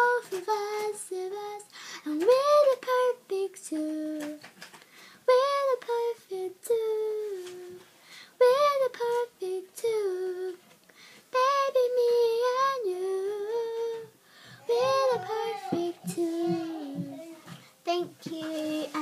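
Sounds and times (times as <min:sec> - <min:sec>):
girl singing unaccompanied: 0:00.0 - 0:04.6, 0:05.2 - 0:10.7, 0:11.3 - 0:19.0.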